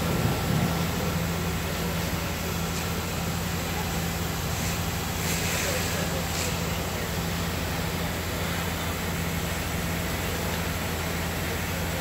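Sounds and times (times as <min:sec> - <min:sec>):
constant hiss: 0:00.0 - 0:11.8
fire engine drone: 0:00.0 - 0:12.0.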